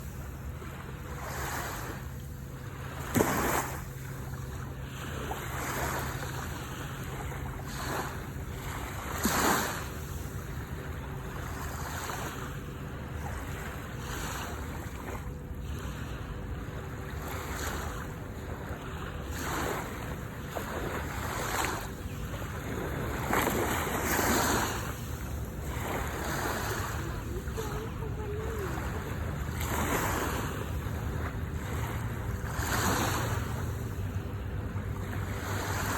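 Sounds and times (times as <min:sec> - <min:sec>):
sea waves breaking: 0:00.0 - 0:35.9
steady low rumble: 0:00.0 - 0:35.9.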